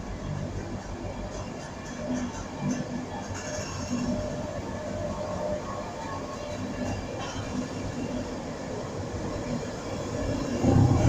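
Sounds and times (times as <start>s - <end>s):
electric locomotive passing: 0.0s - 11.0s
train coaches rolling on rails: 0.0s - 11.0s.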